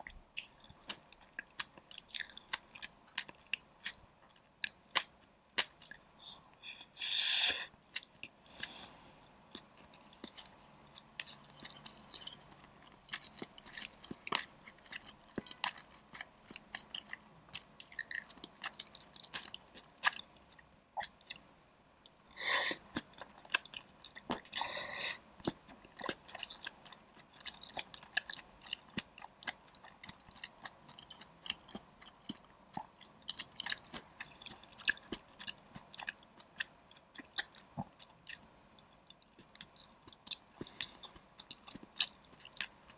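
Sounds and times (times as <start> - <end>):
close chewing with crunches: 0.4 - 7.0, 9.4 - 42.9.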